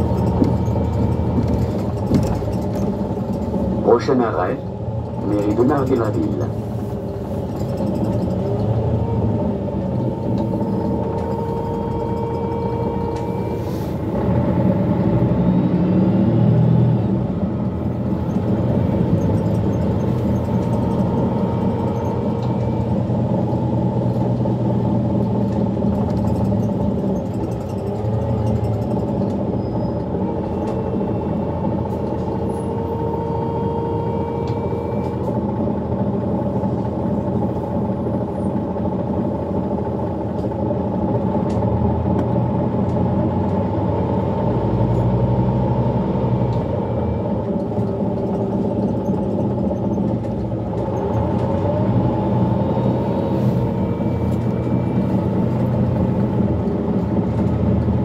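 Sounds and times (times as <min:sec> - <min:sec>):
bus engine and drivetrain hum: 0:00.0 - 0:58.0
drivetrain whine: 0:00.0 - 0:58.0
road noise: 0:00.0 - 0:58.0.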